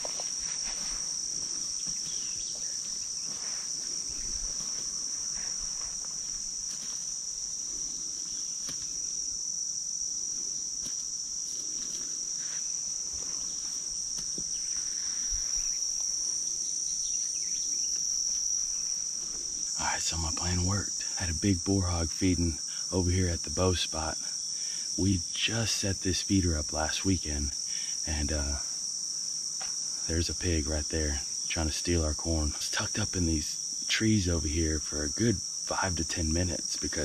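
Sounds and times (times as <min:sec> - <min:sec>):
insects buzzing trill: 0:00.0 - 0:37.0.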